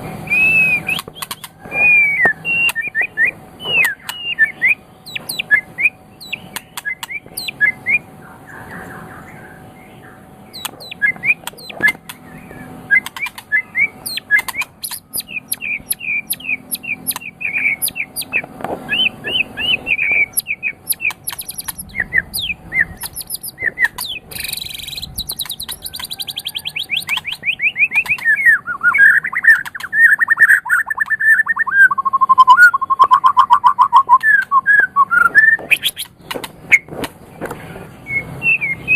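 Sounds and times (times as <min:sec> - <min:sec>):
bird singing chirps and whistles: 0:00.2 - 0:36.9, 0:38.0 - 0:38.9.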